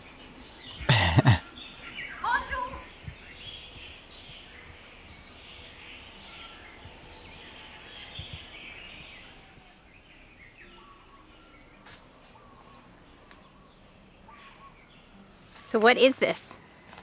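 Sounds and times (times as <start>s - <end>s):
birds whistling and chattering: 0.0s - 16.9s.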